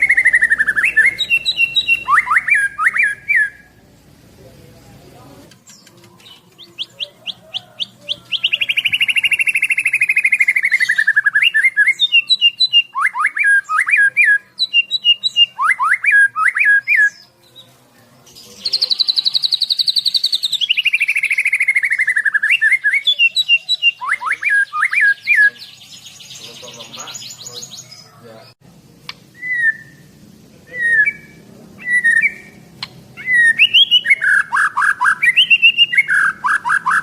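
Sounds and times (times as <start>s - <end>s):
songbird trills and whistles: 0.0s - 3.7s, 5.7s - 17.7s, 18.5s - 28.1s, 29.4s - 30.0s, 30.7s - 37.0s.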